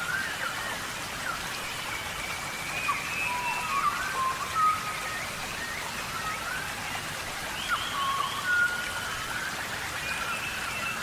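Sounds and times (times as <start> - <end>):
whistled bird calls: 0.0 - 6.7, 7.5 - 11.0
steady rain falling: 0.0 - 11.0.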